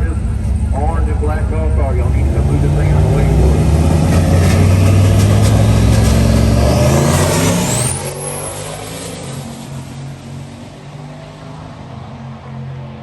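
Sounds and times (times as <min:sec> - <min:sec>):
race truck engine rumbling: 0:00.0 - 0:13.0.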